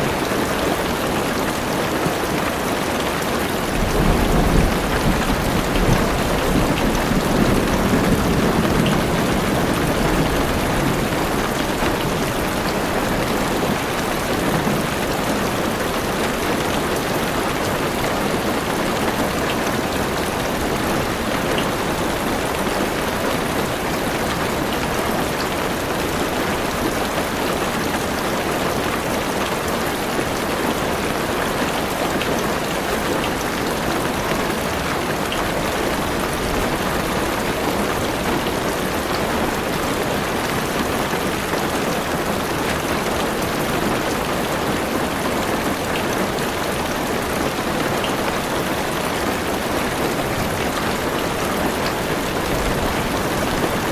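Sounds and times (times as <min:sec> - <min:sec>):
heavy rain on car roof: 0:00.0 - 0:53.9.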